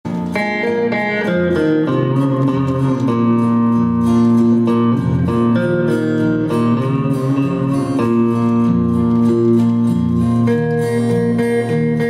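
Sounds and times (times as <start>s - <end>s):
acoustic guitar: 0.0s - 12.0s
bass guitar: 0.0s - 12.0s
electric guitar: 0.0s - 12.0s.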